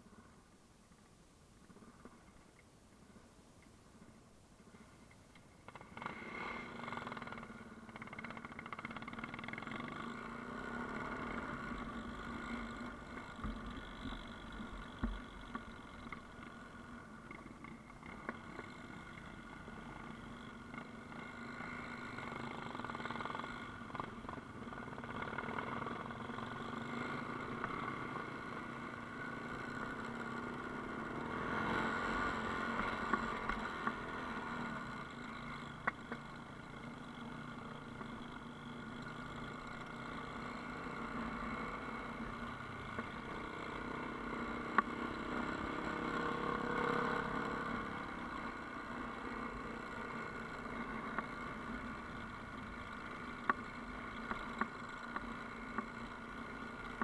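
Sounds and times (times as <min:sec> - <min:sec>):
motorcycle engine running: 0:05.6 - 0:57.0.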